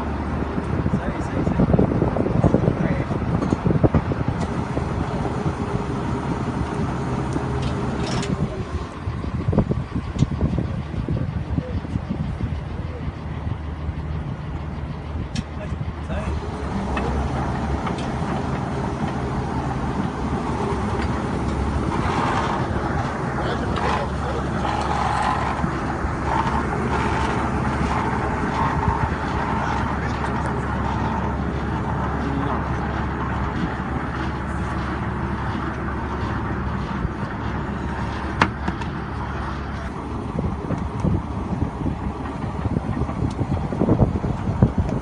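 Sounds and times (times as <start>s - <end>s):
heavy drilling rig engine: 0.0s - 45.0s.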